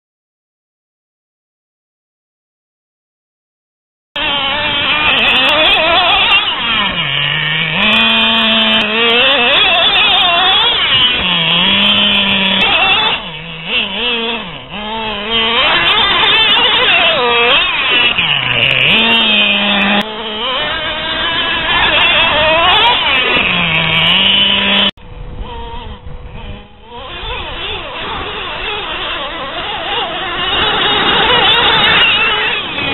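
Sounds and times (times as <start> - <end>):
small nitro engine revving: 4.2 - 32.9.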